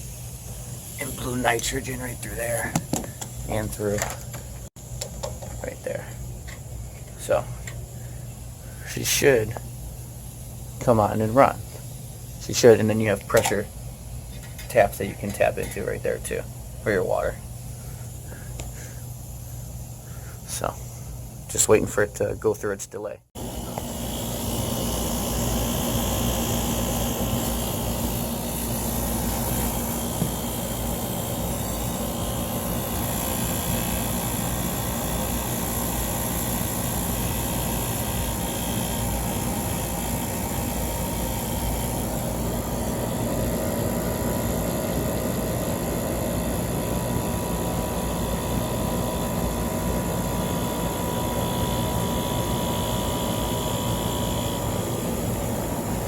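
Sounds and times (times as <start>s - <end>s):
hvac unit droning: 0.0s - 56.0s.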